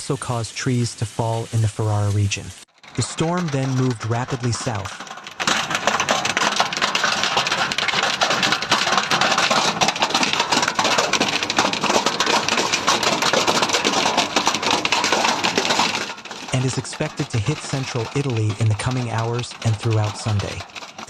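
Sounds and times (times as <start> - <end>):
hailstones clattering on hard surface: 0.0 - 21.0.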